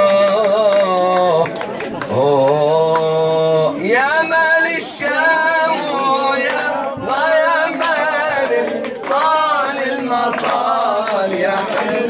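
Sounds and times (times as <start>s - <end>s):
man singing unaccompanied: 0.0s - 1.5s, 2.1s - 12.0s.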